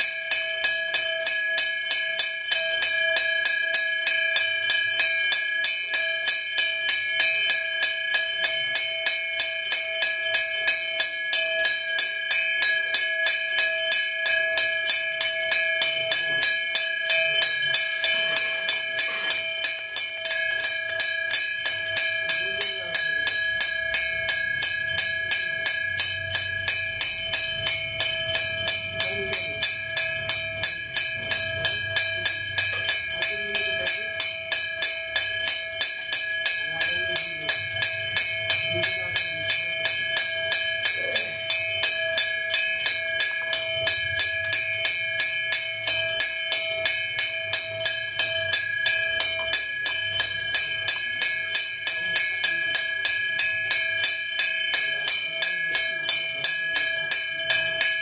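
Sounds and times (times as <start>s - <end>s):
brass bell rung rapidly: 0.0s - 58.0s.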